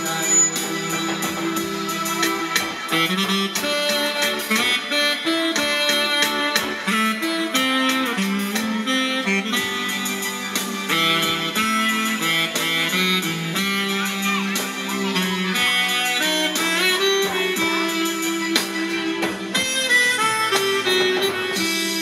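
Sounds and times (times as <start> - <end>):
instrumental music with steady beat: 0.0 - 22.0.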